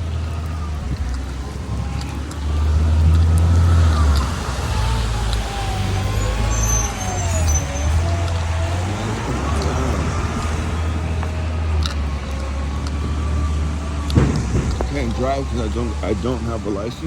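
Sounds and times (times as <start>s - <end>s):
vehicle passing with rumble: 0.0s - 17.0s.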